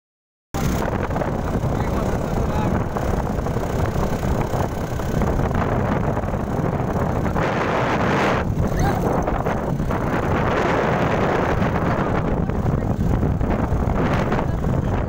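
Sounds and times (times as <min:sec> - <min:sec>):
vehicle rumble: 0:00.6 - 0:15.0
wind buffeting microphone: 0:00.6 - 0:15.0.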